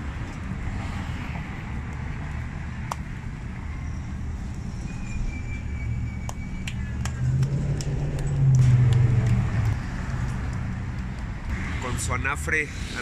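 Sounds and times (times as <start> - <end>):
vehicle engine rumble passing: 0.6 - 13.0.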